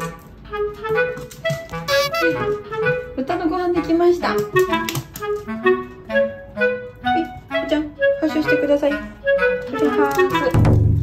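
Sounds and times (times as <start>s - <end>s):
light melody over steady beat: 0.0s - 11.0s.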